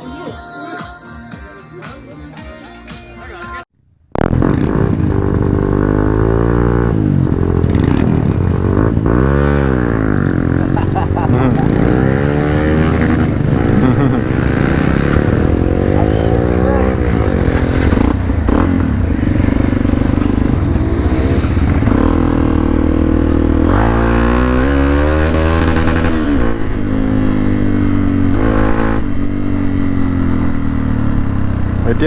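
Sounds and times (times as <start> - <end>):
motorcycle engine revving: 4.1 - 32.0.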